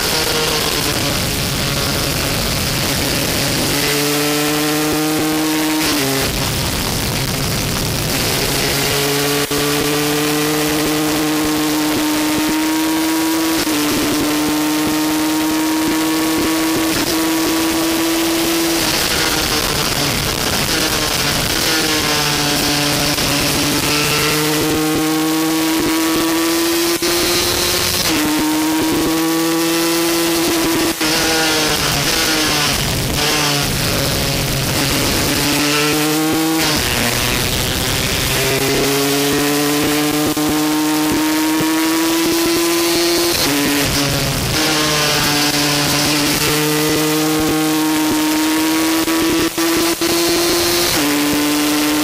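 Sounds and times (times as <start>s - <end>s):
race bike engine revving: 0.0s - 52.0s.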